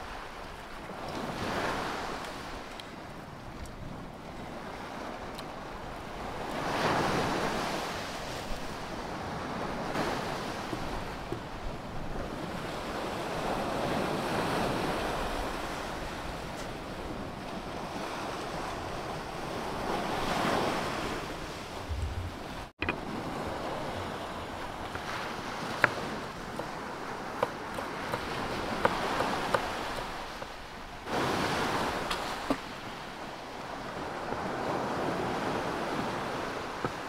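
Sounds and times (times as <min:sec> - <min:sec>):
wind on microphone: 0:00.0 - 0:30.4
sea surf washing onto beach: 0:00.0 - 0:37.0.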